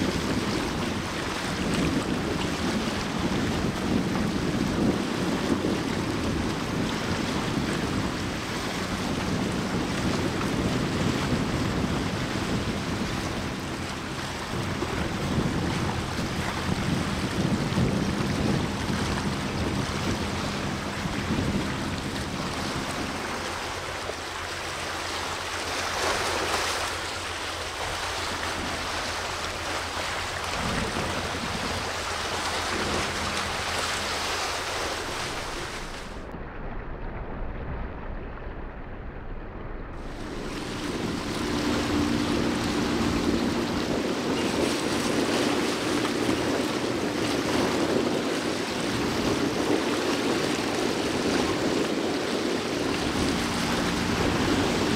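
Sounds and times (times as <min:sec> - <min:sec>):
low hum of passing vessel: 0:00.0 - 0:54.9
sea water rushing: 0:00.0 - 0:54.9
wind buffeting microphone: 0:00.0 - 0:54.9.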